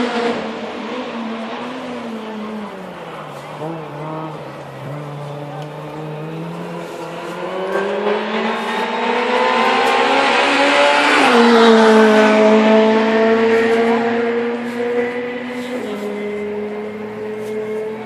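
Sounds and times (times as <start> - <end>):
rally car accelerating past: 0.0 - 2.8, 3.5 - 18.0.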